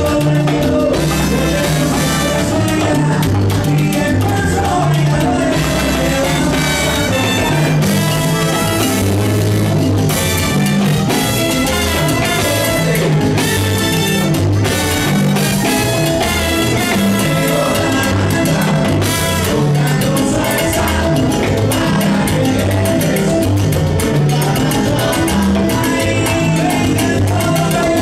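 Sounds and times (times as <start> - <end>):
live salsa band playing: 0.0 - 28.0.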